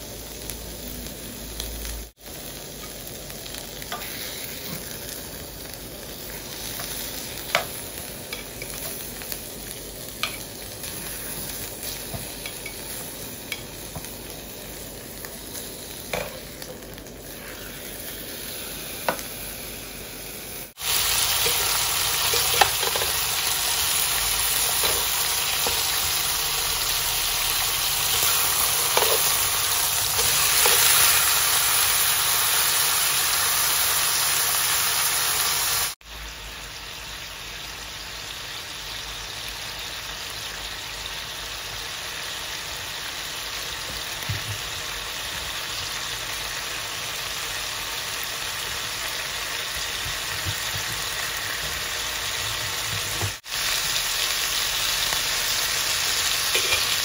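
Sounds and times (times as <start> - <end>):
meat and vegetables sizzling: 0.0 - 57.0.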